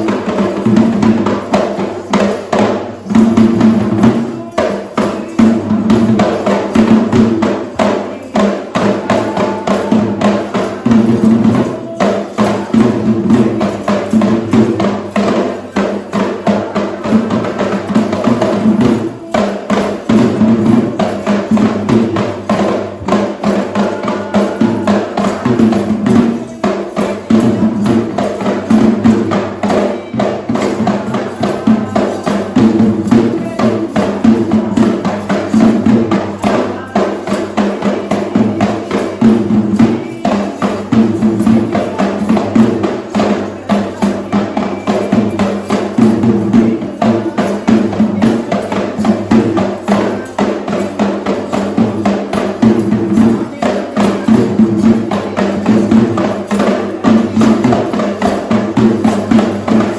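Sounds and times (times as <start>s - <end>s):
drums beaten in fast rhythm: 0.0s - 59.9s.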